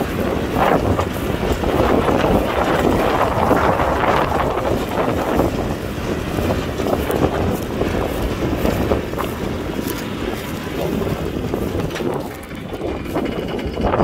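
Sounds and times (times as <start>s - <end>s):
tractor diesel engine running: 0.0s - 14.0s
wind noise on microphone: 0.0s - 14.0s.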